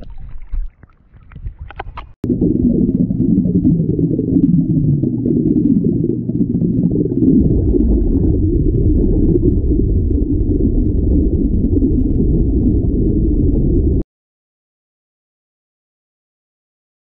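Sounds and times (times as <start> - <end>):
underwater rushing and bubbling: 0.0 - 14.0.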